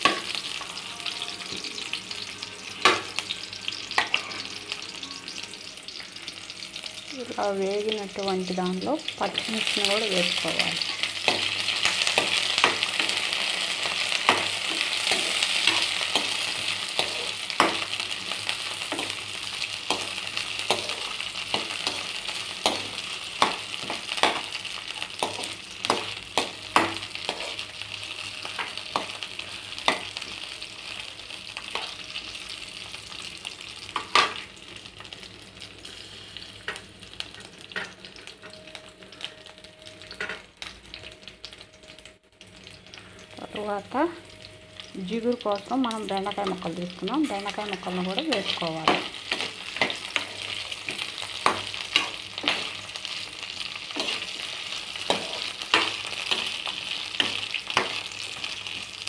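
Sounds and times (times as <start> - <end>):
vegetables sizzling in hot oil: 0.0 - 59.0.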